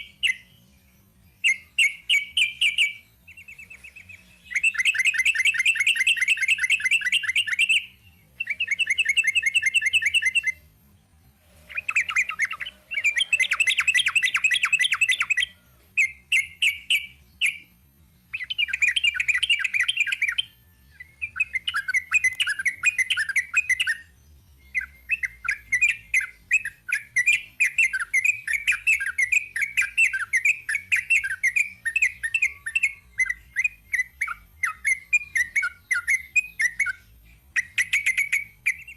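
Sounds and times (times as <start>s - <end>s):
bulbul rapid chattering song: 1.4s - 10.6s, 11.7s - 17.6s, 18.3s - 24.1s, 24.7s - 38.9s.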